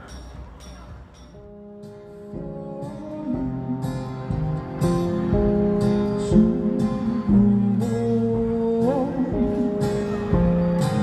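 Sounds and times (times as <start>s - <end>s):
acoustic guitar strummed chords: 0.0s - 11.0s.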